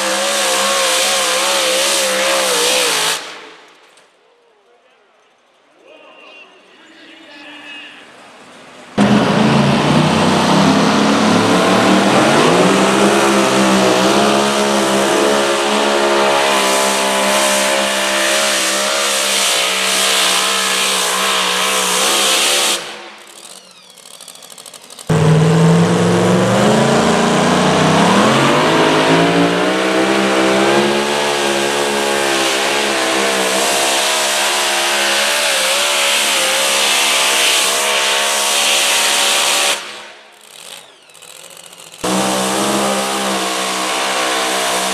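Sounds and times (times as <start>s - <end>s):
pickup truck engine revving high: 0.0s - 3.5s, 9.0s - 23.2s, 24.3s - 44.9s
tractor engine at full throttle: 0.0s - 3.8s, 9.0s - 44.9s.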